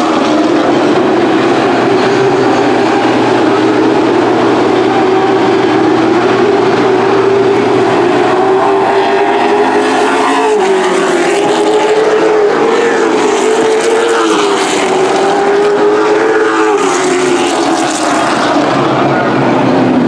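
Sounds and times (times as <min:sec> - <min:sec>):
race truck engines at speed: 0:00.0 - 0:20.0.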